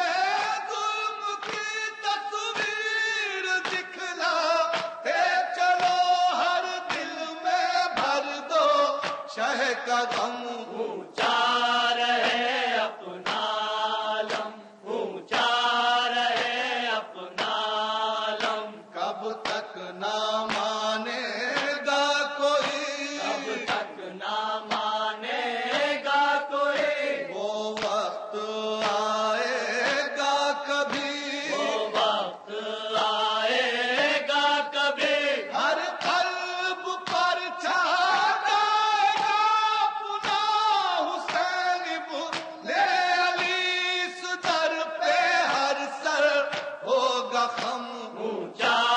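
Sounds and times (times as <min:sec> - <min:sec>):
person chanting a lament: 0:00.0 - 0:48.9.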